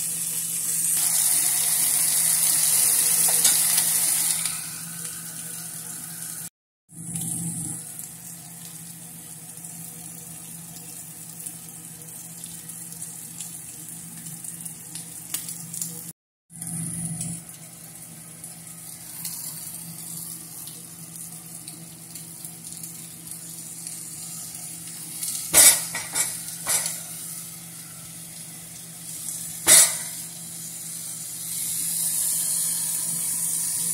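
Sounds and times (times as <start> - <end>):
vegetables sizzling in a frying pan: 0.0 - 16.0, 16.6 - 33.9.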